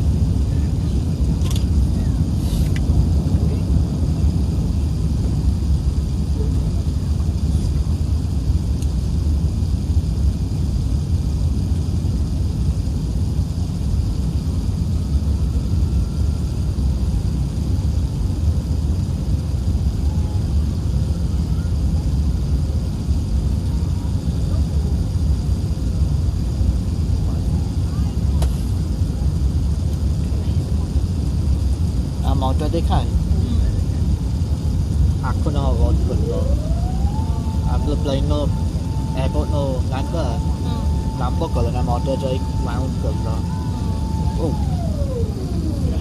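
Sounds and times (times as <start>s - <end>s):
airplane cabin engine rumble: 0.0s - 46.0s.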